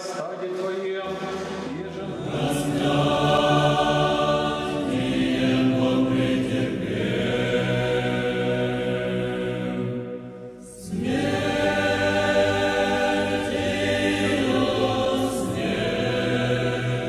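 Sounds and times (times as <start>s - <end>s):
church choir singing held chords: 1.0s - 17.0s.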